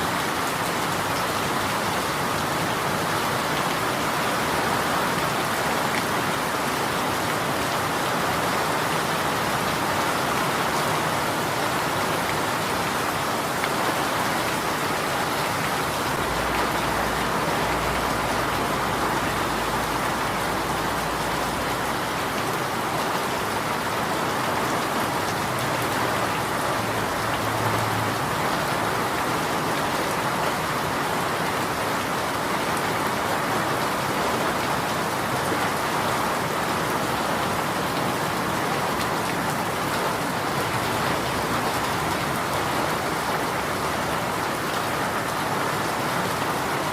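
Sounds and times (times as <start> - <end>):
rain pattering on a surface: 0.0 - 46.9.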